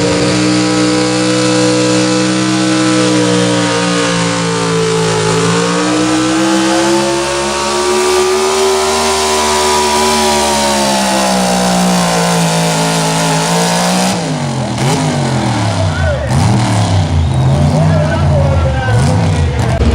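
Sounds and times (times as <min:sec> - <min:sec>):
truck engine revving hard: 0:00.0 - 0:19.9.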